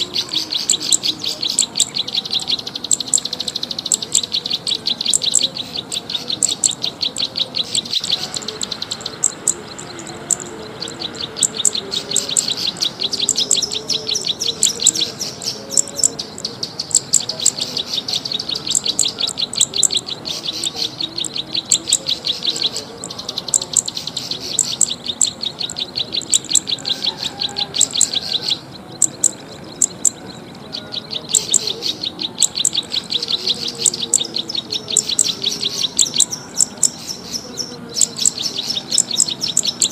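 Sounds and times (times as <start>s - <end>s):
rapid high ticking bird chirps: 0.0s - 39.9s.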